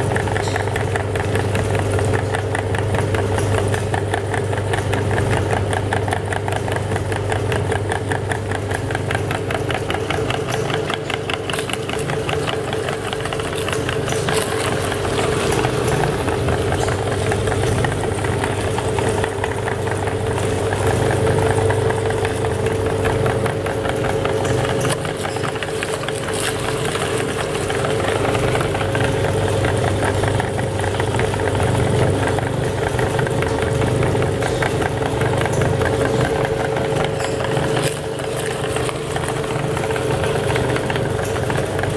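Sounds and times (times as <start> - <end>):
meat grinder running: 0.0 - 41.9.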